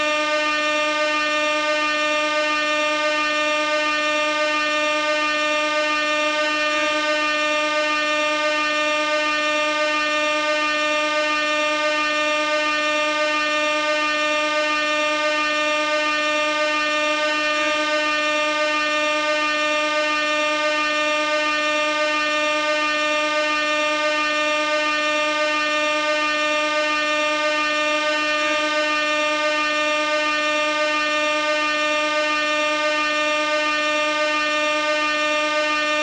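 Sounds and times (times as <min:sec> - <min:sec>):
air horn blast: 0:00.0 - 0:36.0.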